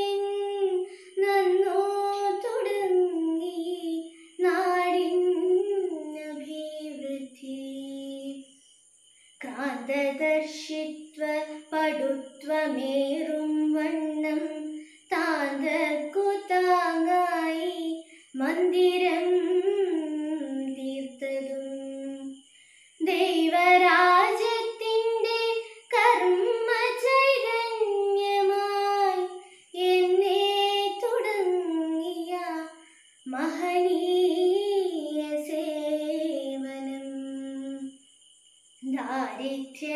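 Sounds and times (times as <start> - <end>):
woman singing unaccompanied: 0.0 - 8.6, 9.4 - 38.0, 38.8 - 39.9.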